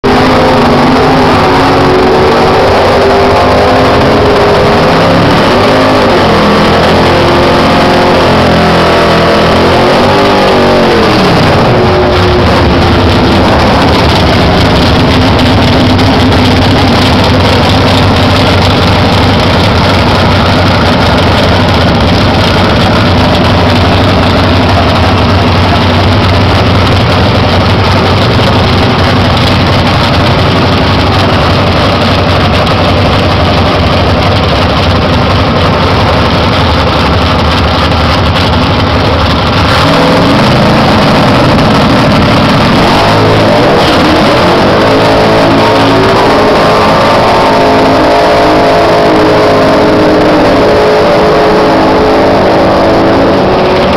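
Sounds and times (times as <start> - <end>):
drag car engine running: 0.0 - 53.9
engine revving: 0.0 - 53.9.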